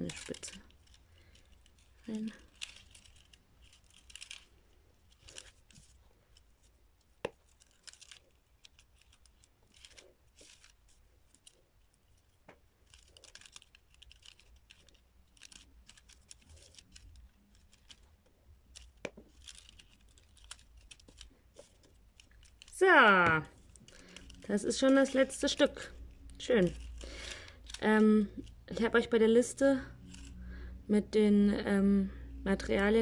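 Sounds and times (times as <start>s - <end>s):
paper rustling and crinkling: 0.0s - 29.1s.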